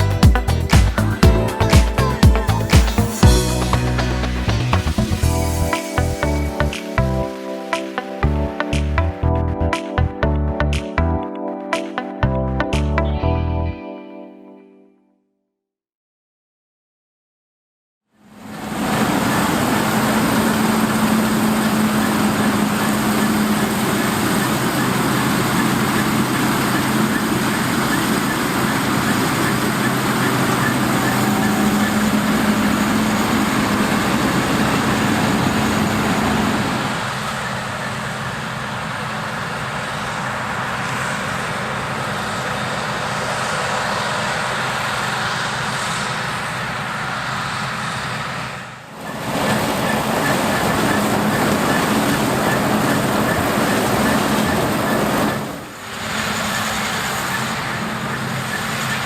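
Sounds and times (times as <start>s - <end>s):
diesel engine hum: 0.0s - 7.1s, 18.8s - 59.0s.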